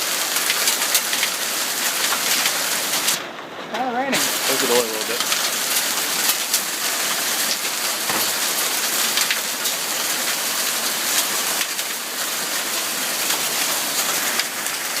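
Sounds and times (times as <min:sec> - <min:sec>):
hail and rain pelting: 0:00.0 - 0:15.0.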